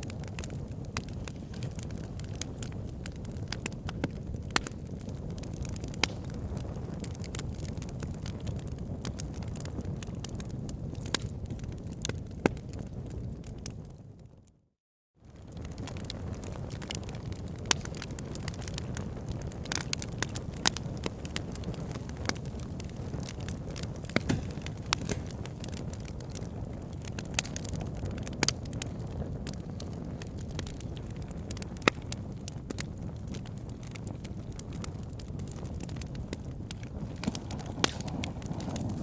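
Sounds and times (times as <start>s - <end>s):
wood fire crackling: 0.0s - 14.0s, 15.3s - 39.0s.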